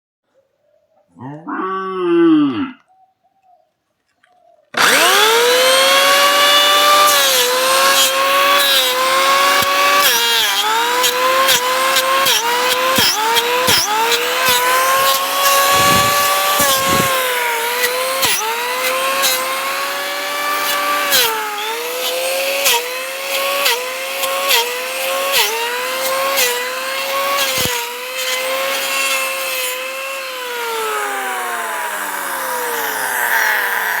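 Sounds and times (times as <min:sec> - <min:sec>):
electric wood planer whining: 0:04.7 - 0:34.0
rasping cutting noise: 0:04.7 - 0:34.0.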